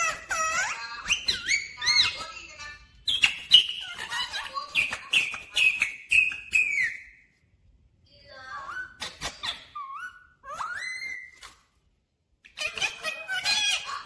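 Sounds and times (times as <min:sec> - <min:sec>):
parakeet calling: 0:00.0 - 0:07.3, 0:08.6 - 0:11.6, 0:12.5 - 0:14.0.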